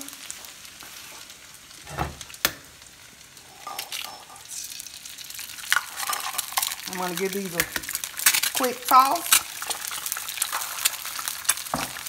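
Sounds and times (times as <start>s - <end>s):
egg frying sizzle: 0.0s - 12.0s.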